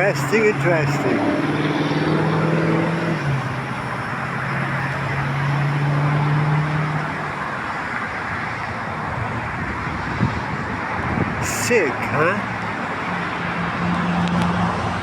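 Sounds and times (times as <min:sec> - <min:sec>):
road traffic noise: 0:00.0 - 0:15.0
vehicle engine hum: 0:00.0 - 0:15.0.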